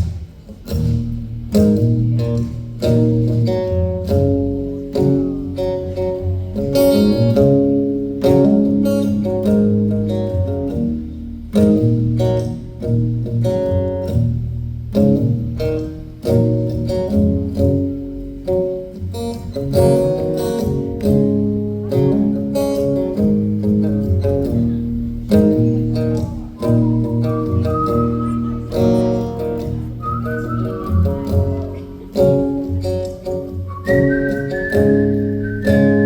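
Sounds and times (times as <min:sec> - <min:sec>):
strummed acoustic guitar: 0:00.0 - 0:36.0.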